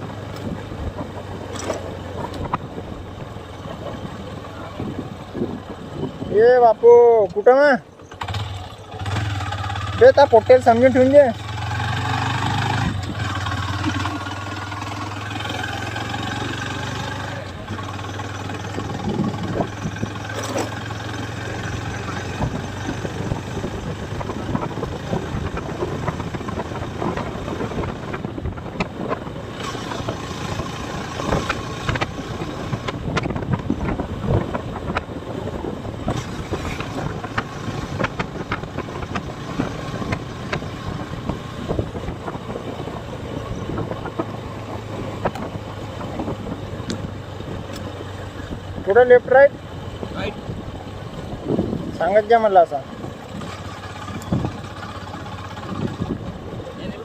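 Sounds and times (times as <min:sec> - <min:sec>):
wind buffeting microphone: 0:00.0 - 0:10.0, 0:11.6 - 0:57.0
motorcycle engine hum: 0:00.0 - 0:57.0.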